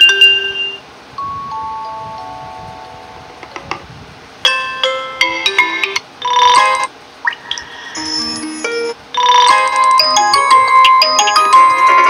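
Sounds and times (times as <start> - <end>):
bell-like phone ringtones: 0.0 - 3.4, 4.5 - 12.0.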